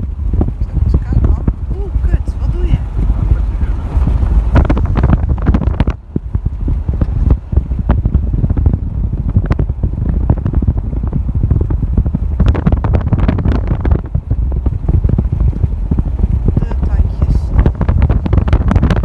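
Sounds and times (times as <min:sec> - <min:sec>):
car rumbling over gravel: 0:00.0 - 0:19.0
wind buffeting microphone: 0:00.0 - 0:19.0.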